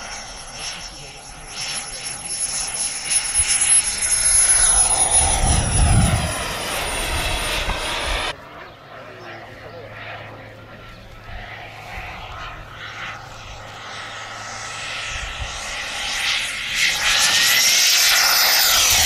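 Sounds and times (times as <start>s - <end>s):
model jet flying past: 0.0s - 19.0s.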